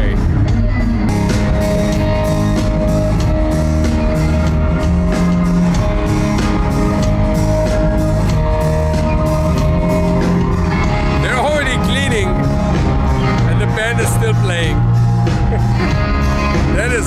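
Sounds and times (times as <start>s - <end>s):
bass line: 0.0s - 17.0s
drums: 0.0s - 17.0s
electric guitar: 0.0s - 17.0s.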